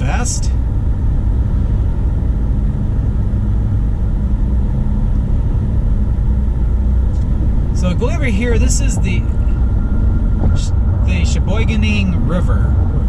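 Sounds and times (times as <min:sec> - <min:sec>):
car road and engine rumble: 0:00.0 - 0:13.0
faint steady hum: 0:00.0 - 0:13.0.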